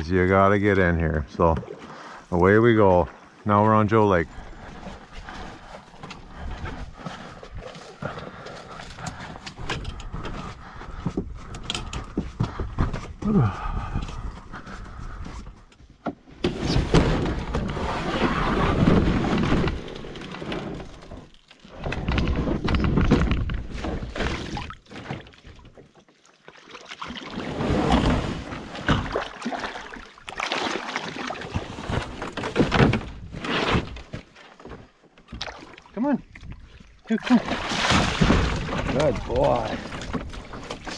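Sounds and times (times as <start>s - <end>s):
water sloshing around canoe: 4.1s - 13.2s, 14.3s - 40.9s.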